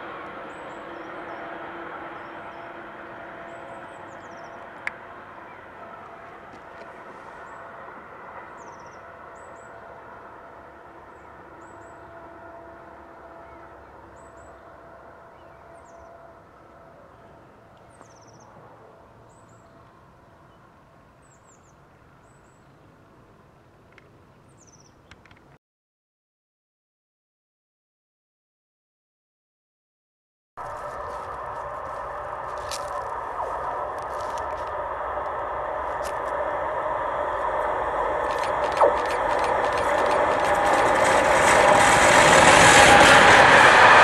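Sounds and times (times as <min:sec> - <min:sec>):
railcar engine and wheel whine: 0:00.0 - 0:25.6, 0:30.6 - 0:44.0.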